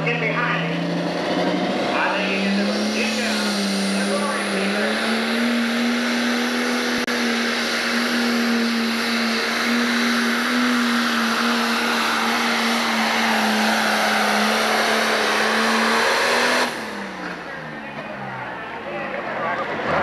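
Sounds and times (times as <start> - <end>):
tractor diesel engine at full load: 0.0 - 20.0.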